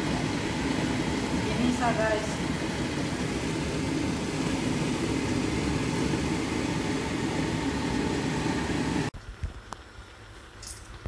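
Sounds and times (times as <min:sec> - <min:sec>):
greens sauteing in frying pan: 0:00.0 - 0:11.0
stove rushing noise: 0:00.0 - 0:11.0.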